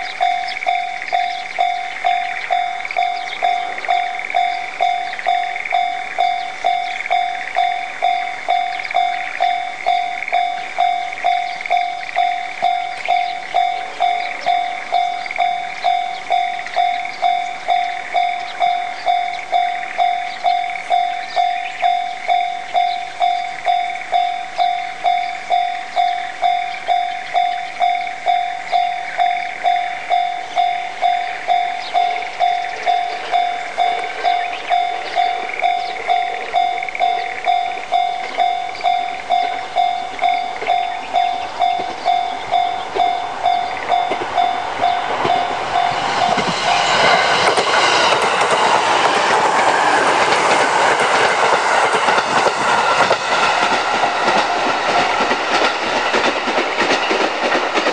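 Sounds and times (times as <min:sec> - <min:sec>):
level-crossing warning bell: 0:00.0 - 0:57.9
train wheels clattering: 0:00.0 - 0:57.9.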